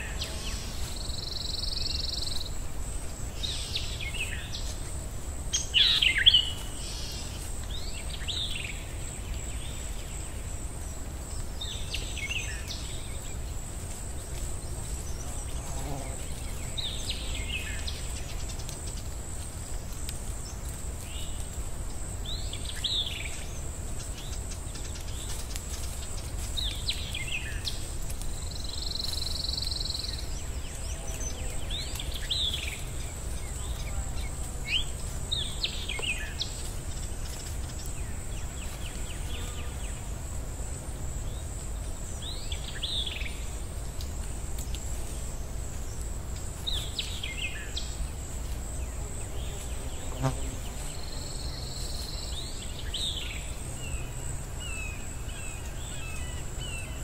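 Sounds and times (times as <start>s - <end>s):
constant low rumble: 0.0s - 57.0s.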